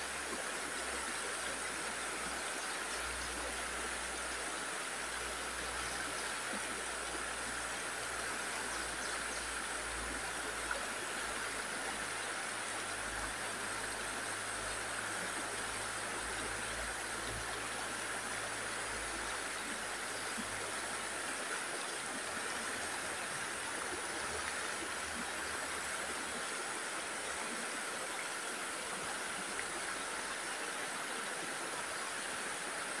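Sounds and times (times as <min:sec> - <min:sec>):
stream rushing water: 0:00.0 - 0:33.0.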